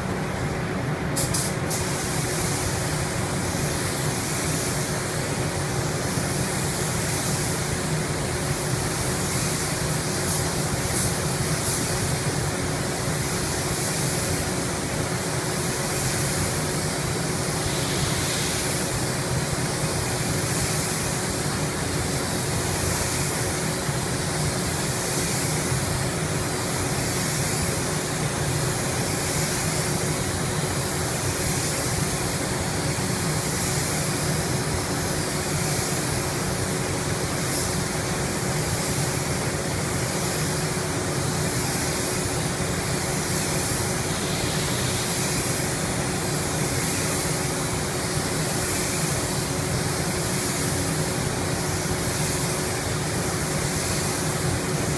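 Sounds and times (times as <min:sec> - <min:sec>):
paint spray gun hissing: 0:00.0 - 0:54.9.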